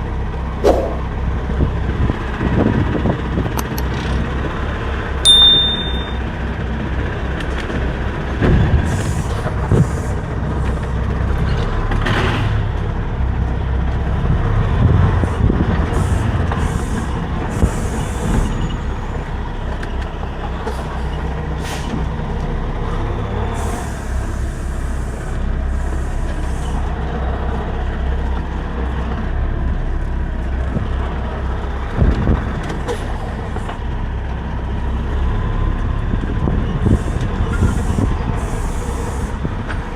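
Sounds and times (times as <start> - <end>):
diesel truck engine rumbling: 0.0 - 5.2, 6.2 - 39.9.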